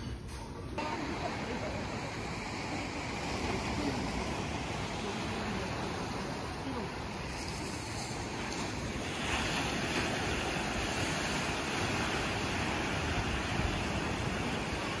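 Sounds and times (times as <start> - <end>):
surf washing against seawall: 0.8 - 15.0
wind on microphone: 1.1 - 15.0.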